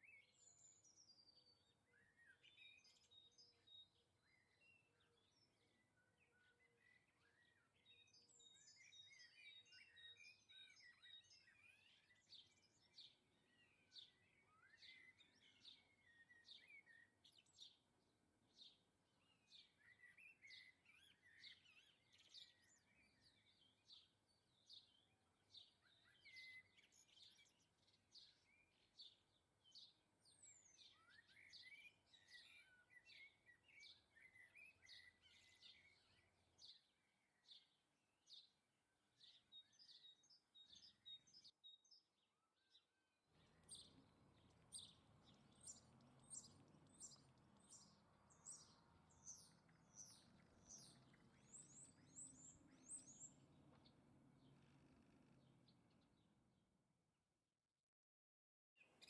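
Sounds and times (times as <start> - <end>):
small birds chirping: 0.0 - 56.8.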